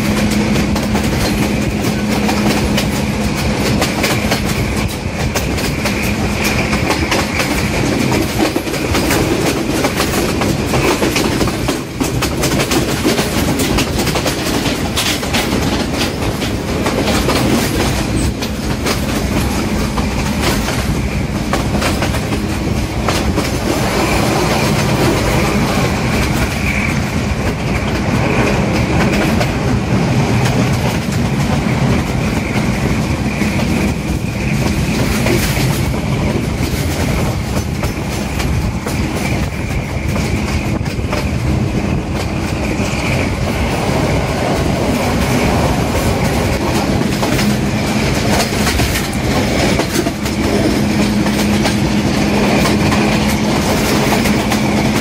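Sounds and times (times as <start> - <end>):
diesel locomotive hum: 0.0 - 55.0
train wheels rumbling and clattering: 0.0 - 55.0.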